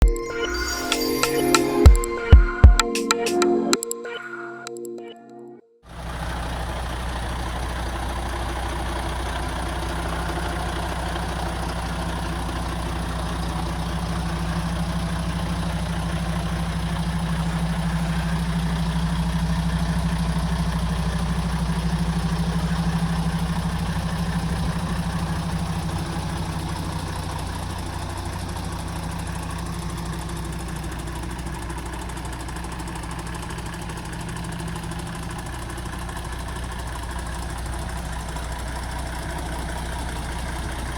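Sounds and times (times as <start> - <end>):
truck diesel engine idling: 5.9 - 40.9.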